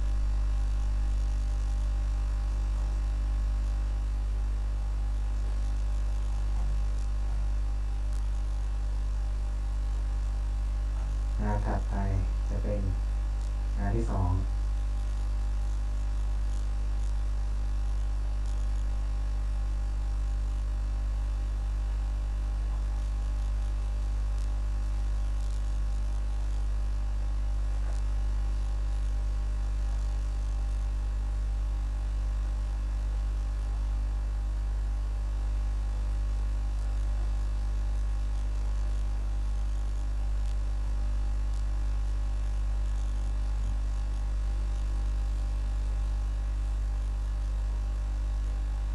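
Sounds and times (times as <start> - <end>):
electrical mains hum: 0.0 - 48.9.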